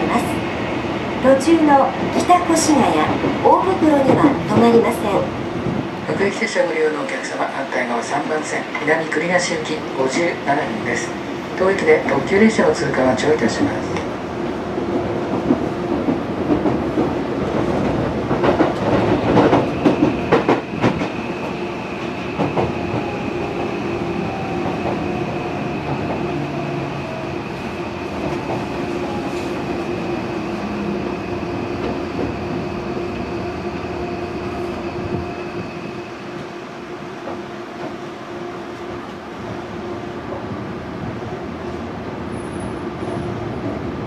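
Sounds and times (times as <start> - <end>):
train running noise: 0.0 - 44.0.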